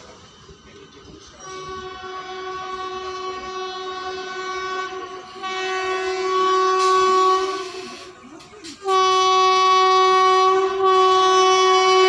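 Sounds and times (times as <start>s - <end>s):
train air horn blasts: 1.4s - 12.0s.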